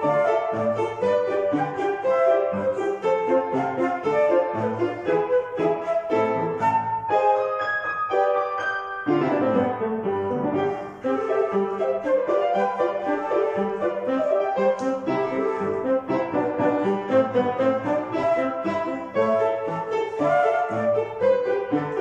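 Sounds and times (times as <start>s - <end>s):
piano playing polka: 0.0s - 22.0s.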